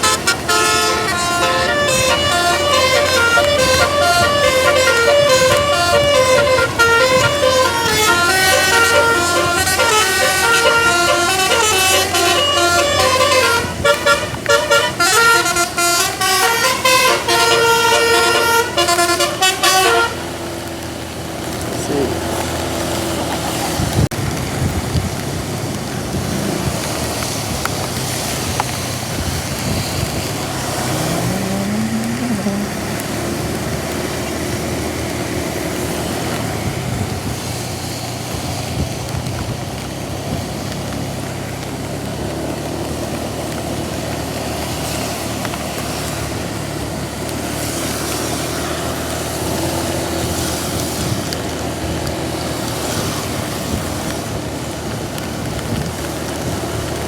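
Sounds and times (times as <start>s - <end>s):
heavy rain hiss: 0.0s - 57.0s
vehicle engines running: 0.0s - 57.0s
wet road noise: 0.0s - 57.0s.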